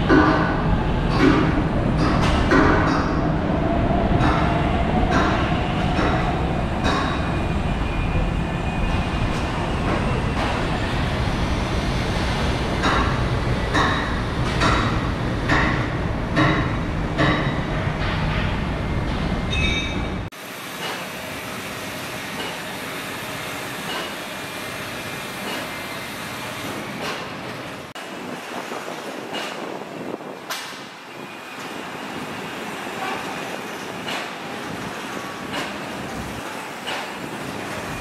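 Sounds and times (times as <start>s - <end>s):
electric train rumble: 0.0s - 38.0s.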